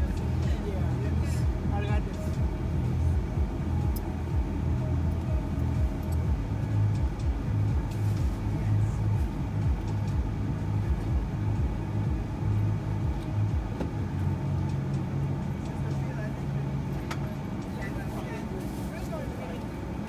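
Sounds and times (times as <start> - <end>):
road noise: 0.0 - 20.0
van engine rumble: 0.0 - 20.0.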